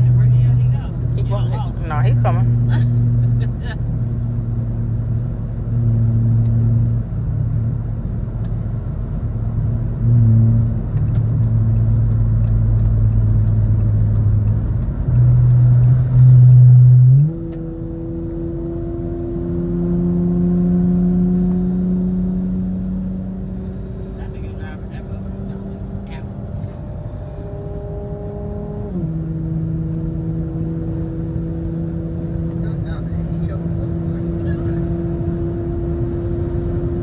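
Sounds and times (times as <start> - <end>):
car engine from inside cabin: 0.0 - 37.0.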